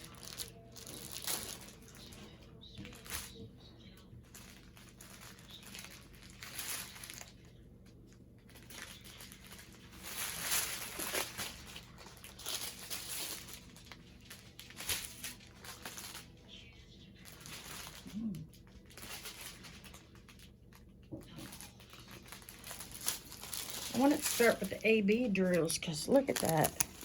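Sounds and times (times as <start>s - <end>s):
plastic bags crinkling: 0.0s - 27.0s.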